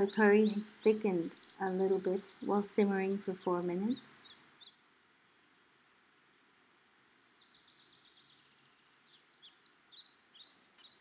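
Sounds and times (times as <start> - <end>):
faint bird chirps: 0.0 - 4.8, 6.0 - 11.0.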